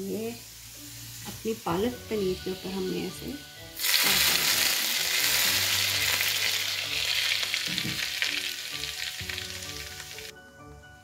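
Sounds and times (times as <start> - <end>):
hot oil sizzling: 0.0 - 10.3.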